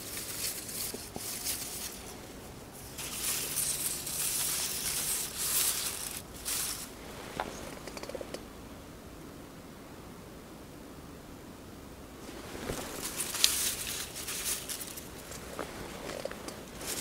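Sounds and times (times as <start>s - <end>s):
rustling hiss: 0.0s - 9.3s, 11.6s - 17.0s.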